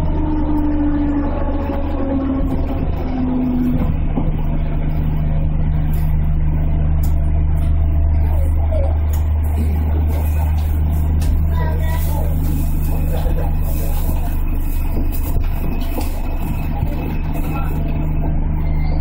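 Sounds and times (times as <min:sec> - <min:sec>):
train cab low hum: 0:00.0 - 0:19.0.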